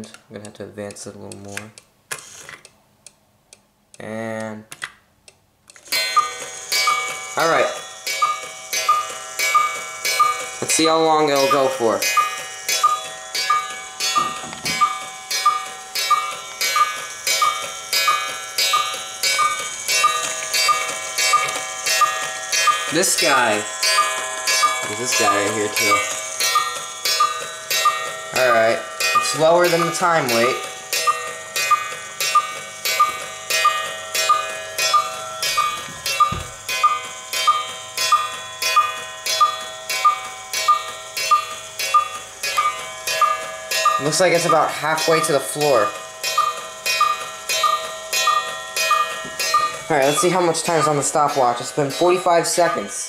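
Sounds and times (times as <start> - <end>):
cuckoo clock calling: 5.9 - 53.0.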